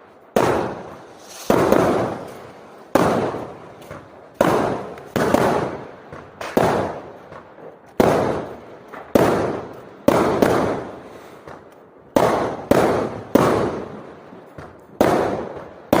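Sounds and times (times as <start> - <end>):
fireworks bangs with echo: 0.0 - 16.0.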